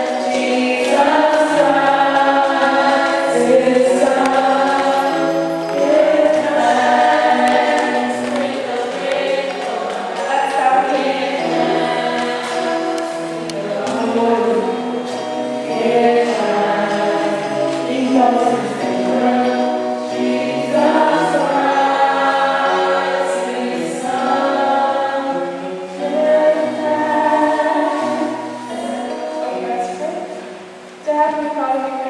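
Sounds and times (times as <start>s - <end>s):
choir singing a hymn: 0.0s - 30.7s.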